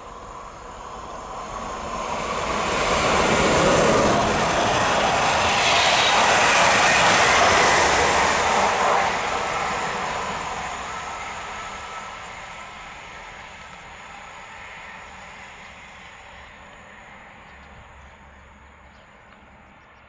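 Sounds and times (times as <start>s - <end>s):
passenger train passing at speed: 0.0s - 20.0s.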